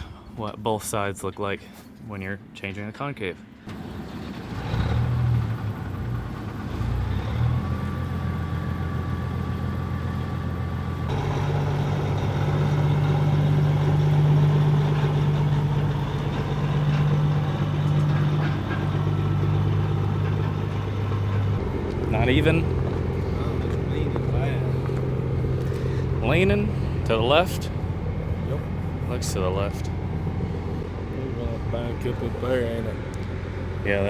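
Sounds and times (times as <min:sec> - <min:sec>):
large engine running: 0:03.7 - 0:34.0.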